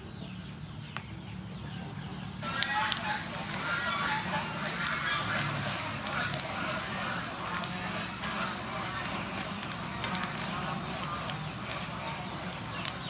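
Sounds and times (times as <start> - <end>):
food sizzling in hot oil: 2.4 - 13.0.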